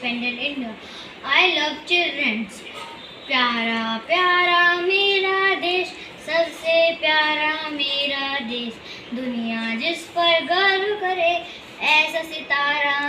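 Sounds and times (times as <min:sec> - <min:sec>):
boy singing: 0:00.0 - 0:02.6, 0:03.3 - 0:13.0.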